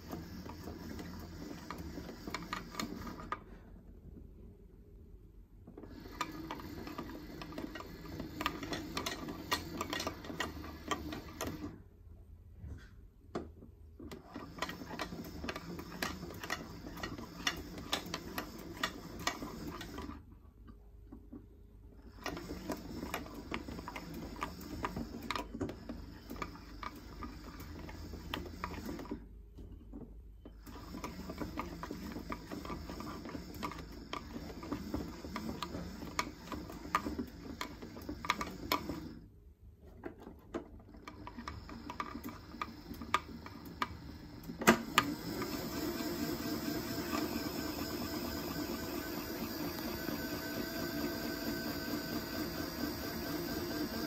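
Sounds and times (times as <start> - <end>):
toy washing machine motor: 0.0 - 3.6, 5.7 - 11.8, 14.0 - 20.3, 22.0 - 29.3, 30.5 - 39.3, 39.9 - 54.0.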